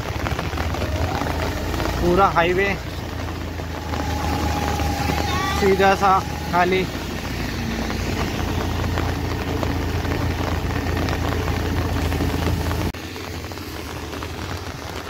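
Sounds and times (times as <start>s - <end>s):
motorcycle engine rumble: 0.0s - 15.0s
rain falling on ground: 0.0s - 15.0s
wind and tyre hiss: 0.0s - 15.0s.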